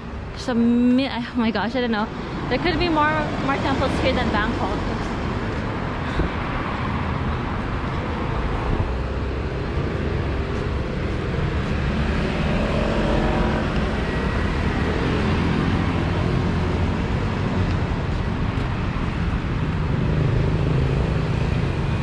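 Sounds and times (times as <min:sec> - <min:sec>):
street traffic: 0:00.0 - 0:22.0
vehicle engine passing: 0:02.4 - 0:22.0.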